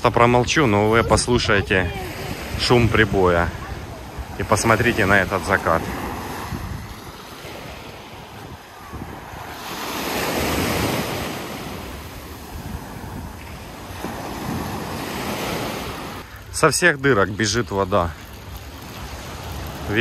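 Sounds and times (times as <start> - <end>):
wind on microphone: 0.0 - 16.3
waves breaking on shore: 0.0 - 20.0.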